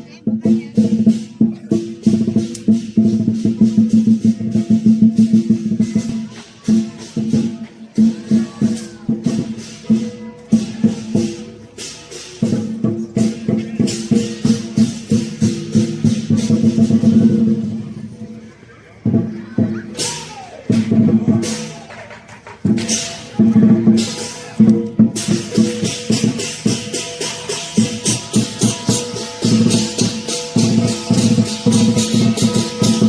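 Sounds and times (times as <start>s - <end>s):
cymbals clashing: 0.0s - 18.3s, 19.0s - 33.0s
drum beating: 0.0s - 33.0s.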